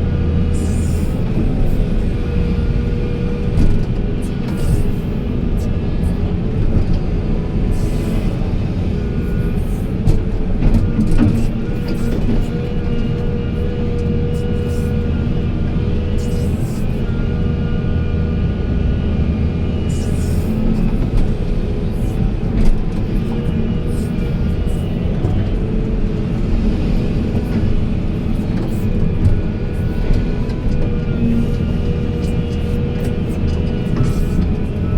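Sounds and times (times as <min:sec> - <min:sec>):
diesel machinery rumbling: 0:00.0 - 0:34.9.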